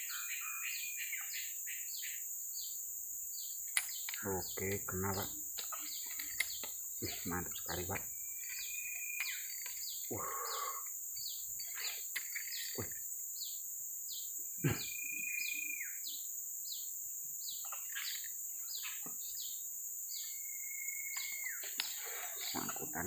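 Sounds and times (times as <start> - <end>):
birds chirping: 0.0 - 23.0
high insect drone: 0.0 - 23.0.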